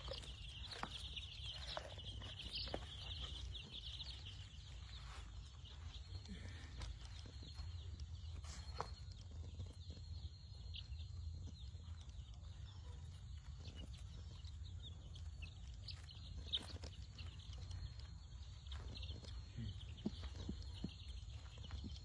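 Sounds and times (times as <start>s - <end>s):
chicks peeping: 0.0s - 22.0s
steady low hum: 0.0s - 22.0s.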